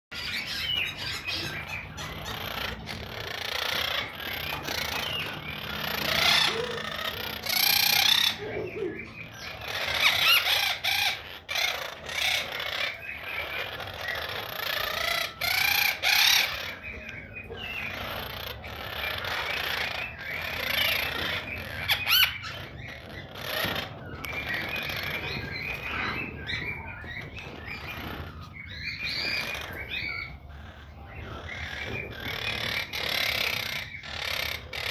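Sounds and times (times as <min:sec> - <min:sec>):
parakeet chattering and squawking: 0:00.1 - 0:34.9.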